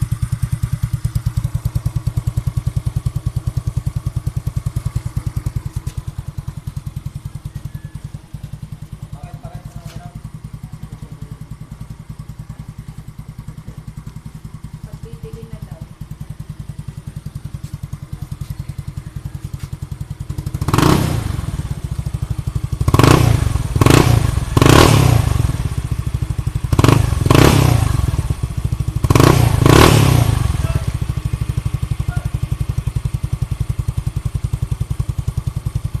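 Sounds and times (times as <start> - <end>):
motorcycle engine idling: 0.0 - 36.0
motorcycle throttle blips: 0.0 - 36.0.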